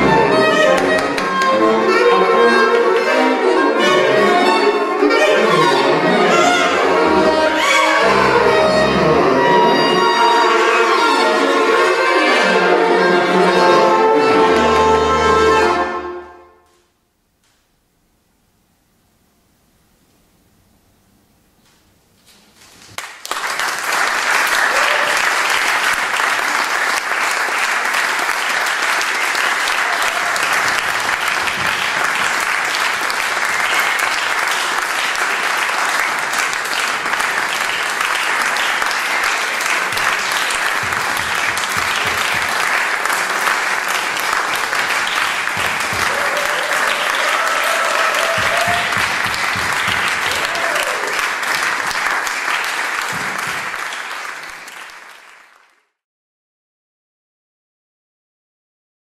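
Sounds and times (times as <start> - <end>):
audience applauding: 0.0 - 15.9, 23.0 - 56.0.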